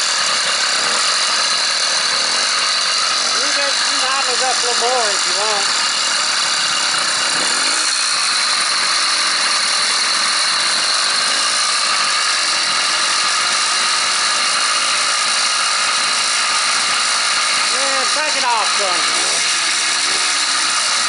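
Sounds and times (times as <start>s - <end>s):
two-stroke engine idling: 0.0s - 21.0s.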